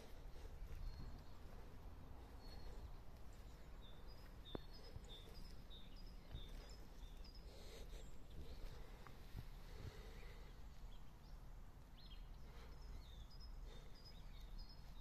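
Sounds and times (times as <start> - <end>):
faint bird chirping: 0.0 - 15.0
low rumble of outdoor noise: 0.0 - 15.0.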